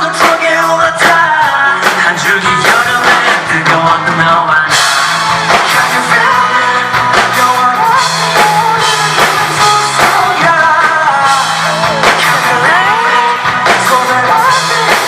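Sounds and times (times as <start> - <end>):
bass guitar: 0.0 - 15.0
drums: 0.0 - 15.0
electric guitar: 0.0 - 15.0
man singing: 0.0 - 15.0.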